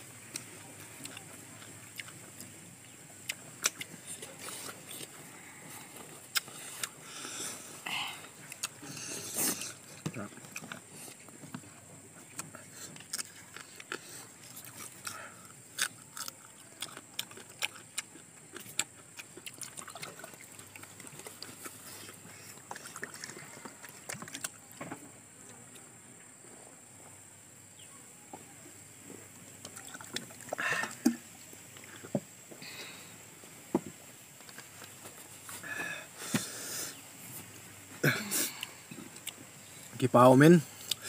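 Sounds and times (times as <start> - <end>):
mouth eating noises: 0.0 - 26.0, 28.8 - 33.3, 34.0 - 41.0
thin steady high hiss: 0.0 - 41.0.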